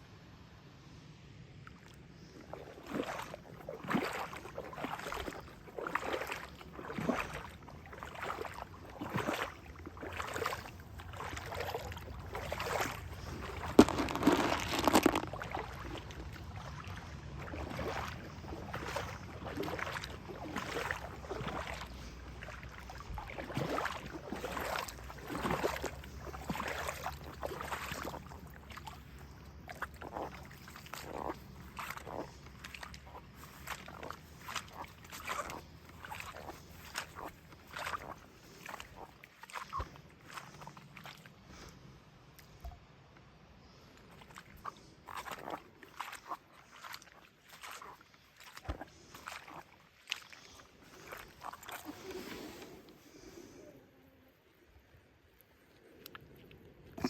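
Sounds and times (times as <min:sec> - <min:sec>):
footsteps wading through water: 0:01.6 - 0:57.0.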